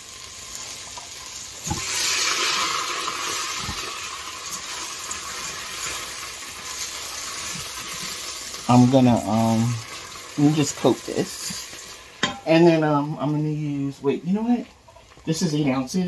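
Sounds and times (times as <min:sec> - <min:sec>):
sauce sizzling in hot oil: 0:00.0 - 0:16.0.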